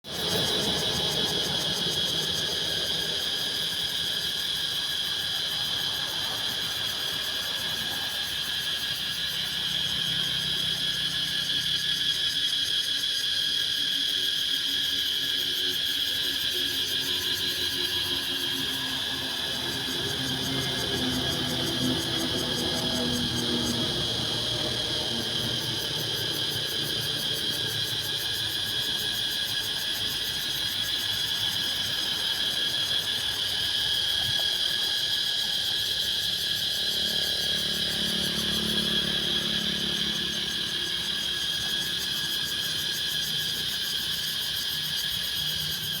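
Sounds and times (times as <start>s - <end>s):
cicadas droning: 0.0s - 46.0s.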